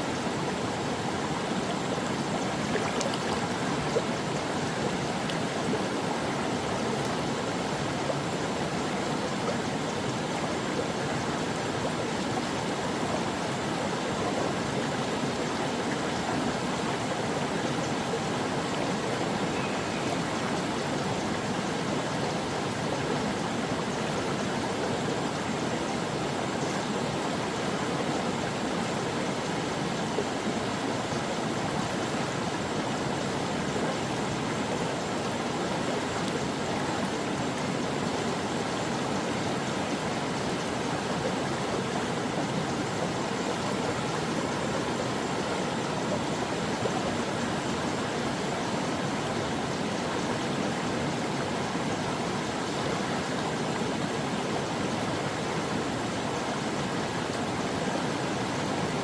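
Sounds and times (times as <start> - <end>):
brook flowing over rocks: 0.1 - 59.0.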